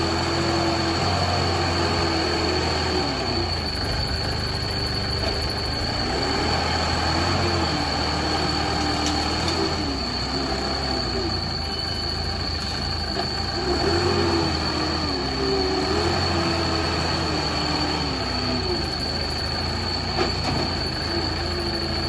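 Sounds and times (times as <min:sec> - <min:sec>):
high whine: 0:00.0 - 0:22.0
wheel loader diesel engine: 0:00.0 - 0:22.0.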